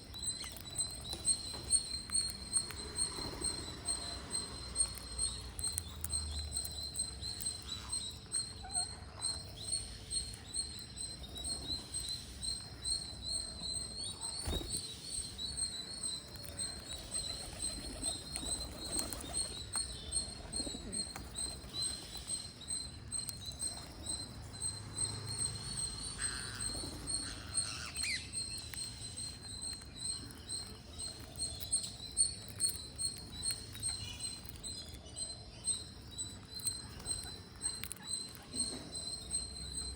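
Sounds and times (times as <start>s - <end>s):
parrots chirping: 0.0s - 39.9s.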